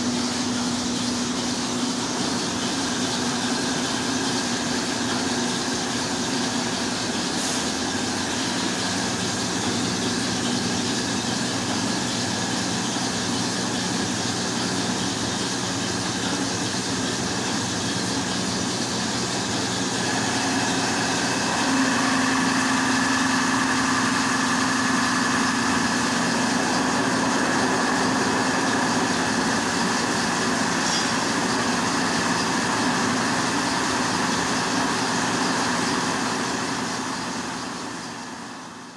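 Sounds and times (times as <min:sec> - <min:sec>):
stone mill motor droning: 0:00.0 - 0:38.9.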